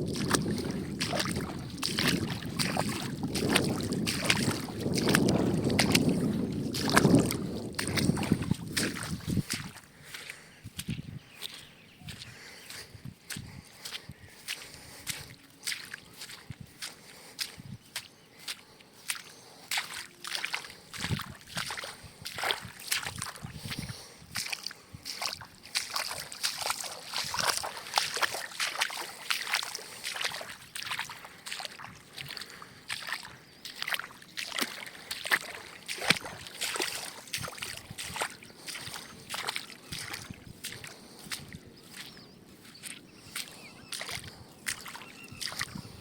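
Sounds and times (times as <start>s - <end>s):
water sloshing and splashing: 0.0s - 46.0s.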